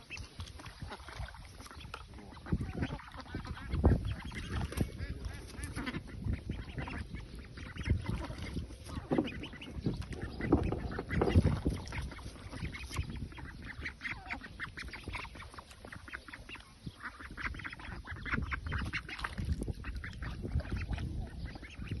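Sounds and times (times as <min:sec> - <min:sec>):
wild ducks quacking: 0:00.0 - 0:22.0.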